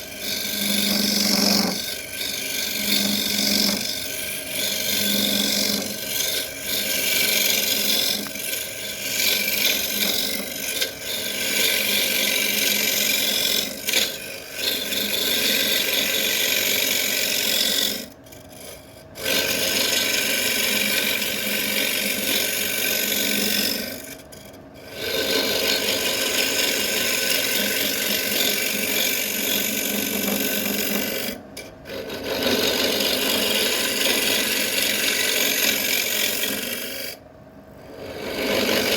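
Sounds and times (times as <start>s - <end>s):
tool scraping wood on lathe: 0.0s - 38.9s.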